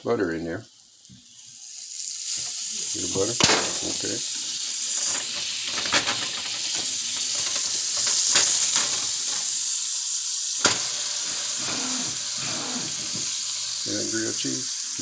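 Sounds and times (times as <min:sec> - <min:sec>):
butter sizzling in skillet: 0:00.1 - 0:15.0.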